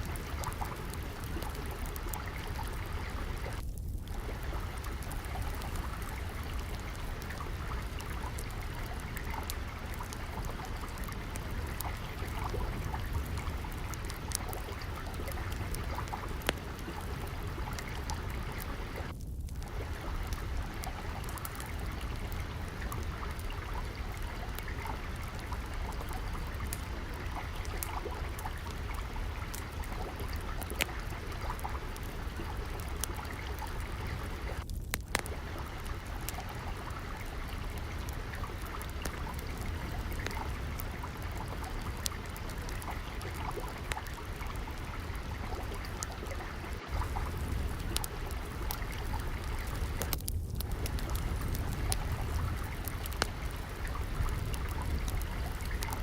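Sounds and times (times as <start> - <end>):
flowing water: 0.0 - 56.0
wood fire crackling: 0.0 - 56.0.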